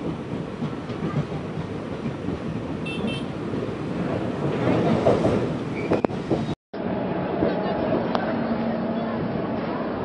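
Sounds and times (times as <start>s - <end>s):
train rumble from inside coach: 0.0s - 10.0s.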